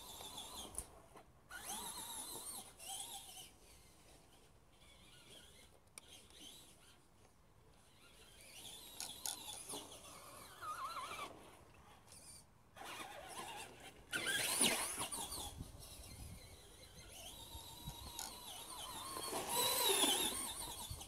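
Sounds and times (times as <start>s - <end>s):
rc truck electric motor whining: 0.0s - 7.0s, 7.8s - 21.0s.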